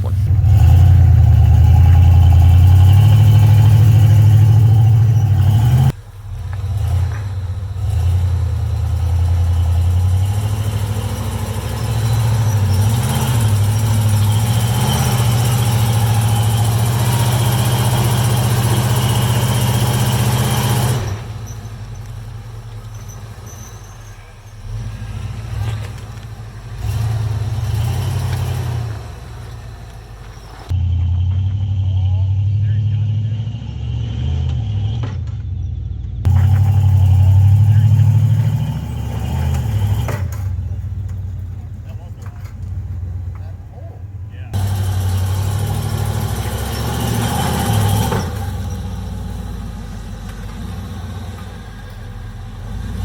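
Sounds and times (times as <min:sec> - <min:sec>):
off-road engine revving: 0:00.0 - 0:53.0.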